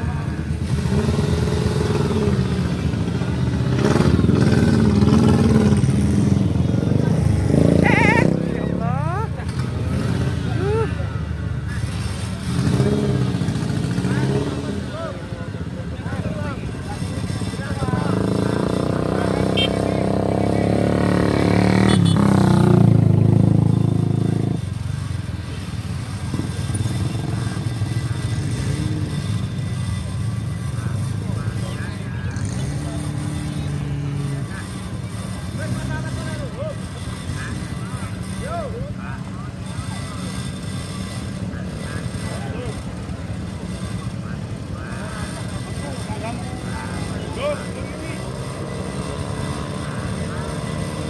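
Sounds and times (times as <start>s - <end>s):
vehicle engine revving: 0.0s - 51.0s.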